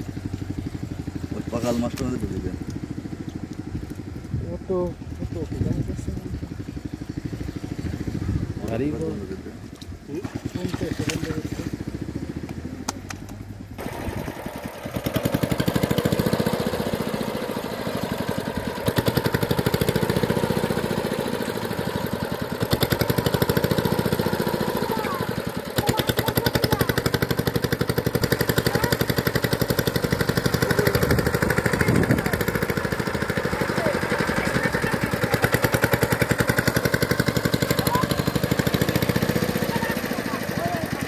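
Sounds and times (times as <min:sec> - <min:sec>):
small engine running: 0:00.0 - 0:41.0.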